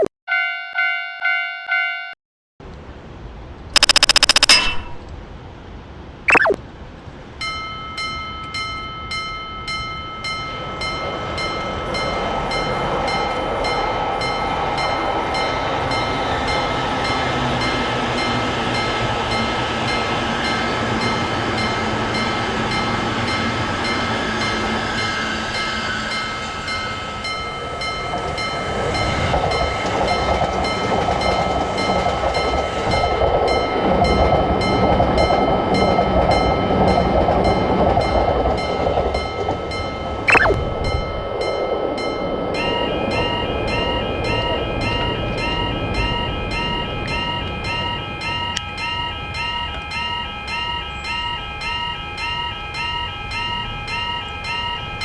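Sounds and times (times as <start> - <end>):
crossing warning bell ringing: 0.0 - 2.2, 7.4 - 55.0
train passing: 2.8 - 55.0.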